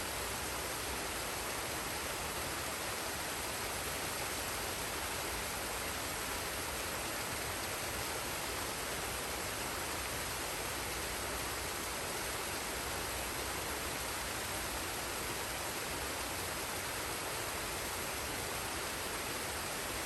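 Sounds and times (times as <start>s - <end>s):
waterfall rushing water: 0.0s - 20.0s.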